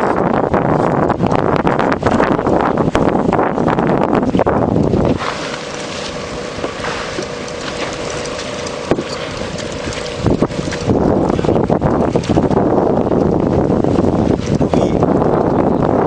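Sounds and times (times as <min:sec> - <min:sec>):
wind buffeting microphone: 0:00.0 - 0:16.0
steady hum: 0:00.4 - 0:16.0
loud low rumble: 0:01.4 - 0:16.0.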